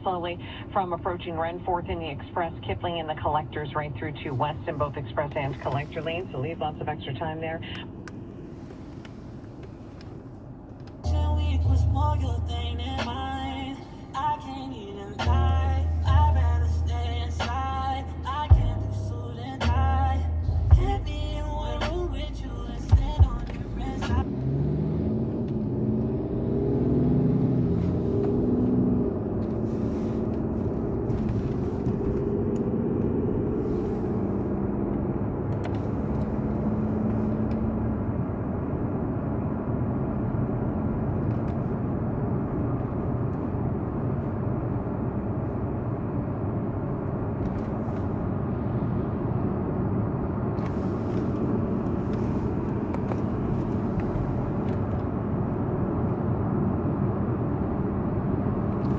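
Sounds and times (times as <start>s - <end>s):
car engine from inside cabin: 0.0s - 58.9s.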